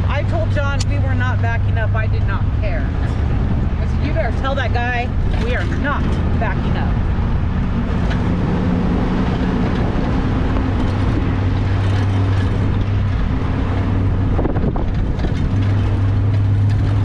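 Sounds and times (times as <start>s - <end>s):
road noise: 0.0s - 17.0s
truck engine driving: 0.0s - 17.0s.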